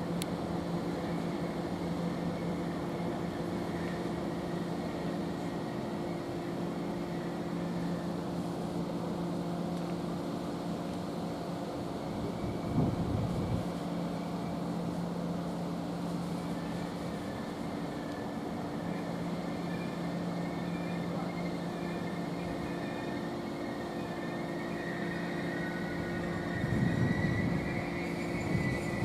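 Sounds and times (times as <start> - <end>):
train electrical hum: 0.0 - 29.0
train motor whine: 0.0 - 29.0.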